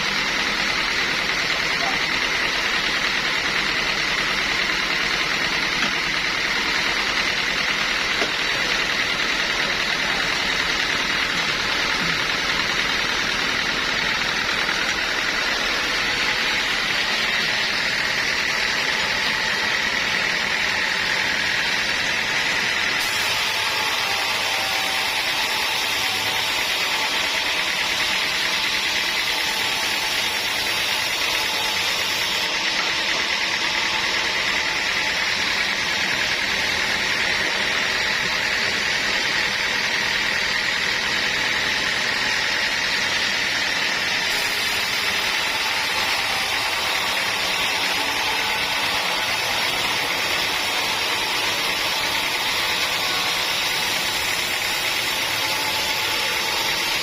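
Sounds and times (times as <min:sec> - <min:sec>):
sawmill machinery whine: 0:00.0 - 0:57.0.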